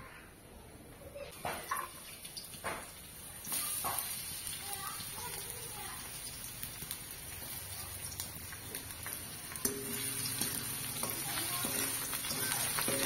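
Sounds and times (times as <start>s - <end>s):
food sizzling in oil: 1.3s - 13.0s.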